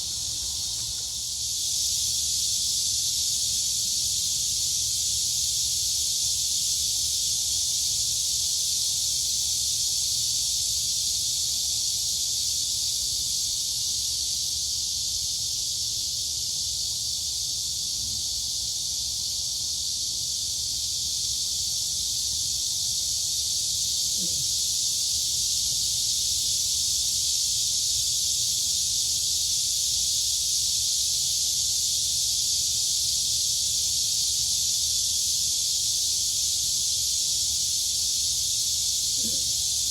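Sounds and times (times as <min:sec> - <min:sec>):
crickets and cicadas chirping: 0:00.0 - 0:39.9.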